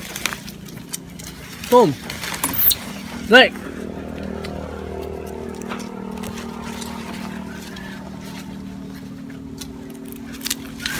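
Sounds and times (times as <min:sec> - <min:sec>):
engine droning steadily: 0:00.0 - 0:10.9
leaves rustling: 0:00.0 - 0:10.9.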